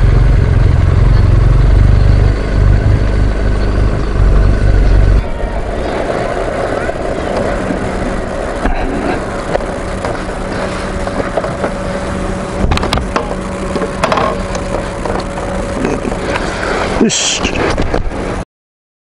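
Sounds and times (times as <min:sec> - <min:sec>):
motorcycle engine running: 0:00.0 - 0:18.4
road noise: 0:00.0 - 0:18.4.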